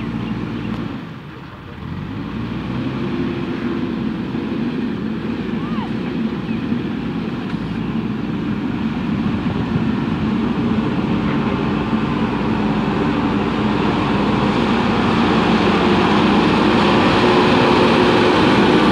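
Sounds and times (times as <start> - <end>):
backhoe diesel engine running: 0.0 - 18.9.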